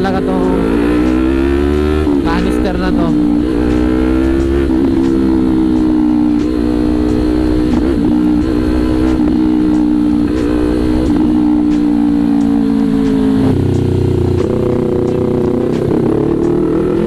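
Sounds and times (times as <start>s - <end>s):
motorcycle exhaust note: 0.0s - 17.0s.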